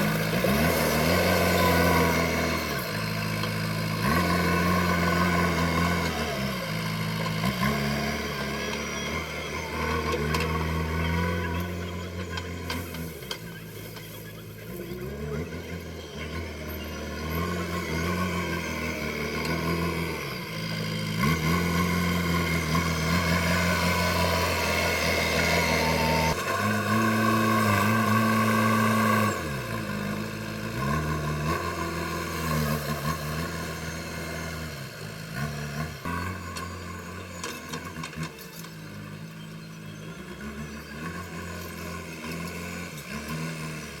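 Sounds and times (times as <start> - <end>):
diesel engine revving under load: 0.0 - 44.0.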